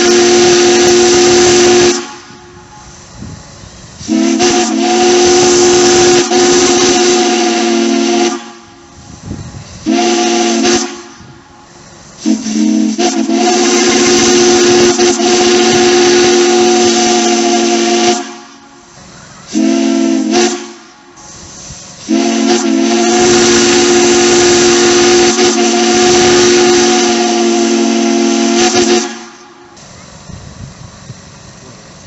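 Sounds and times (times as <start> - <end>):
steam whistle chord: 0.0 - 3.1, 4.0 - 9.0, 9.8 - 29.8
steam hissing: 0.0 - 32.0.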